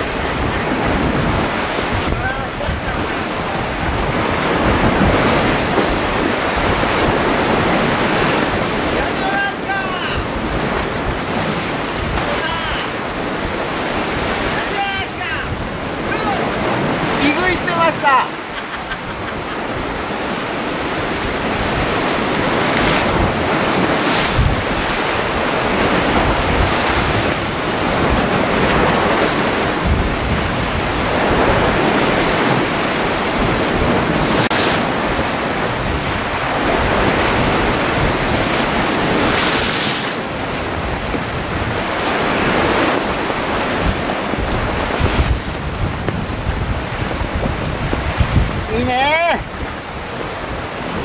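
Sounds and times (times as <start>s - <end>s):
surf breaking against rocks: 0.0s - 51.0s
wind buffeting microphone: 0.0s - 51.0s.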